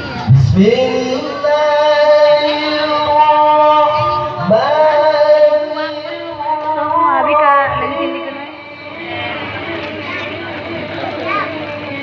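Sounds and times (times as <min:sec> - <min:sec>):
person reciting in melodic chant: 0:00.3 - 0:12.0.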